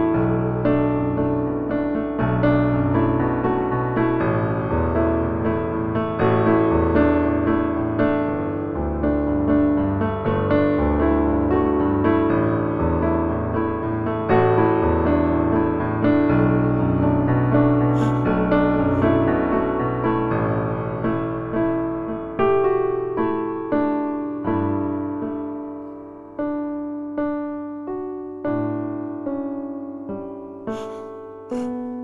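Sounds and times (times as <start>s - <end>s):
slow gentle piano music: 0.0s - 32.0s.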